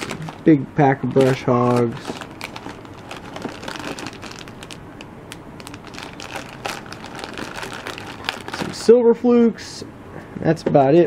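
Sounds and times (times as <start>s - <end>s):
plastic packs crinkling: 0.0s - 8.9s.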